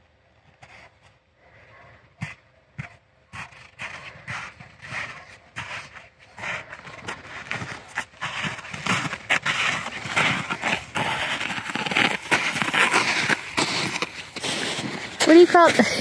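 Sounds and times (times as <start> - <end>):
footsteps crunching on snow: 2.2 - 16.0.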